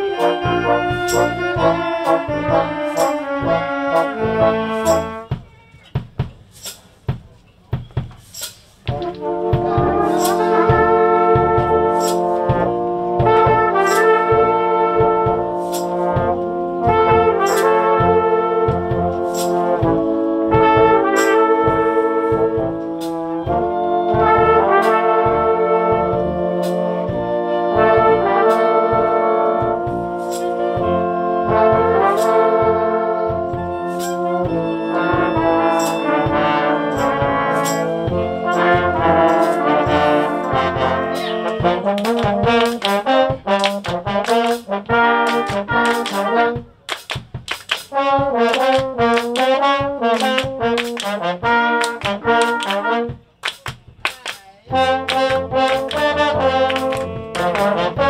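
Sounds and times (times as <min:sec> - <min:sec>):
brass horns playing chords: 0:00.0 - 0:05.5, 0:08.8 - 0:58.0
steady percussion beat: 0:00.0 - 0:58.0.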